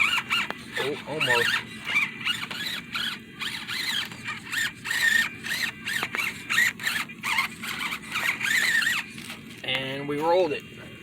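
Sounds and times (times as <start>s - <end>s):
small electric motor whining: 0.0s - 10.4s.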